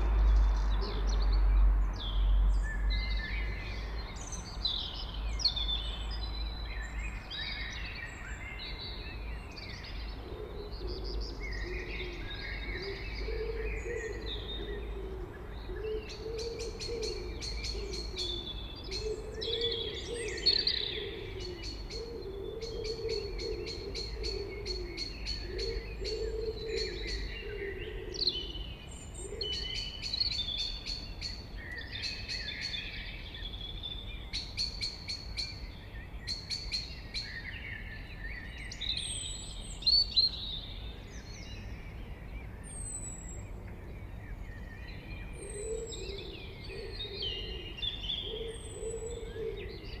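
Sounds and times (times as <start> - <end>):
blackbird singing: 0.0 - 50.0.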